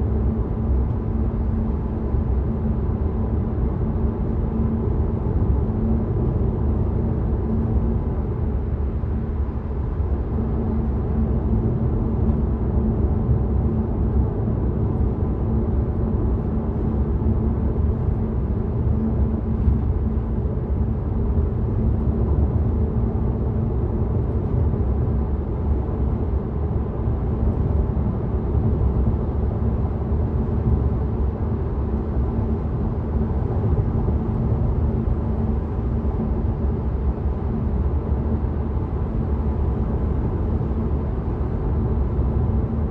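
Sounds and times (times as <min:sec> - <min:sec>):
road and tyre rumble: 0:00.0 - 0:42.9.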